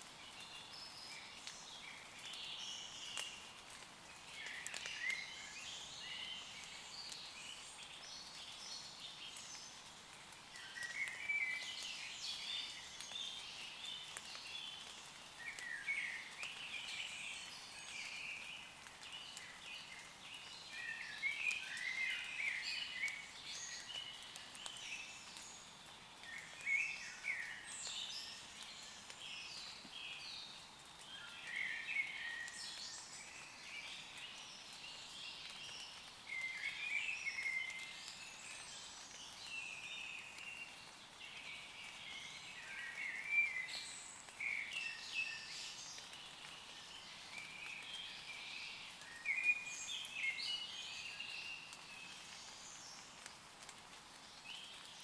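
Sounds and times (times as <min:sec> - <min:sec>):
light rain pattering on leaves: 0:00.0 - 0:55.0.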